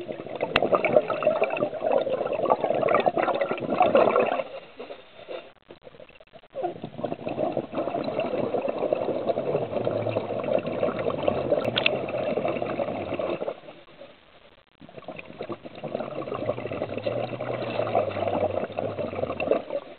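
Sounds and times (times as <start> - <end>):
underwater breath bubbles: 0.0 - 5.5, 6.6 - 14.2, 14.8 - 19.9.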